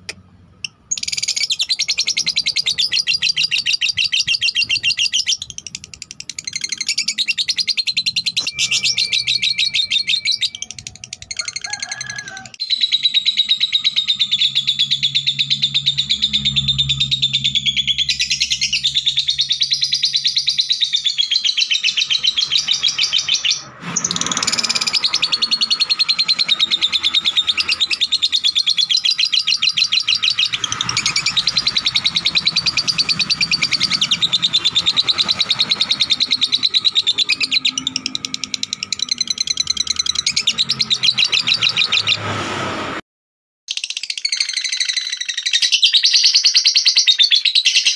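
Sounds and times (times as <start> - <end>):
lovebird chattering shrill chirps: 0.6 - 42.2, 43.7 - 47.9.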